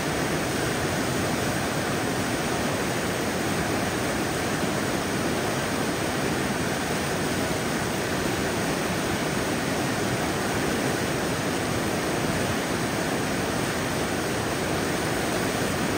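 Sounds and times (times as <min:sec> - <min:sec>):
river rapids rushing: 0:00.0 - 0:15.9
waterfall: 0:00.0 - 0:15.9.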